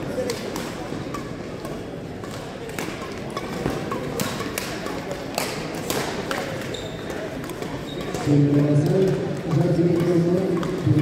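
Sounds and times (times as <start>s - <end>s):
racquets hitting shuttlecocks: 0.1s - 11.0s.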